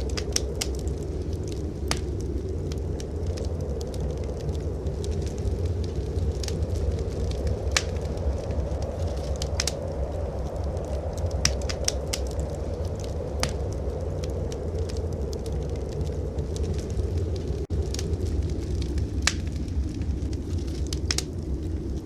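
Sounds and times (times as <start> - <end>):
fire pops and snaps: 0.0 - 22.0
low rumble of blizzard wind: 0.0 - 22.0
wood fire crackling: 0.0 - 22.0.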